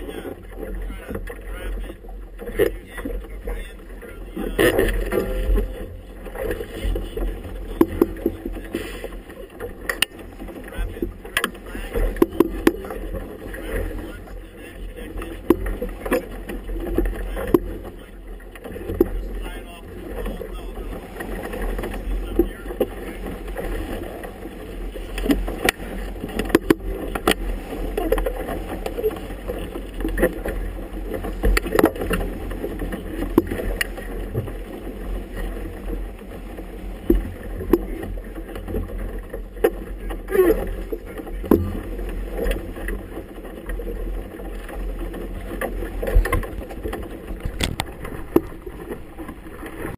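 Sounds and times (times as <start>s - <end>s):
water slapping against boat hull: 0.0s - 49.9s
wind and water wash: 0.0s - 49.9s.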